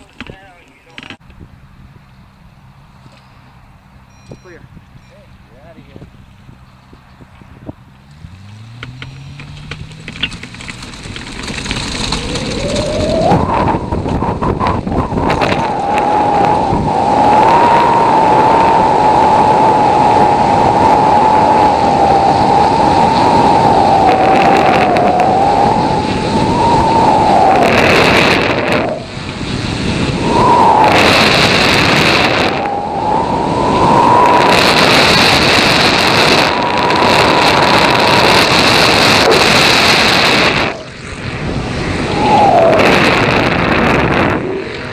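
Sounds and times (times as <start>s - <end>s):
wind rushing over microphone: 2.6s - 44.9s
small plane engine: 6.8s - 44.9s.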